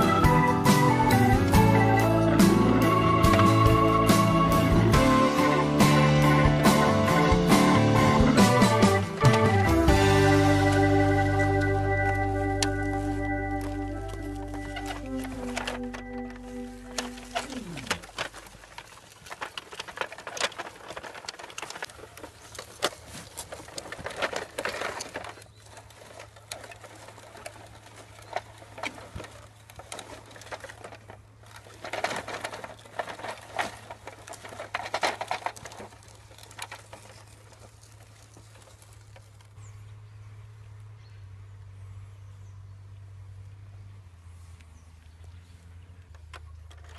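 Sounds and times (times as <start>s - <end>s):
toy vehicles clicking and knocking: 0.0s - 39.6s, 45.9s - 46.9s.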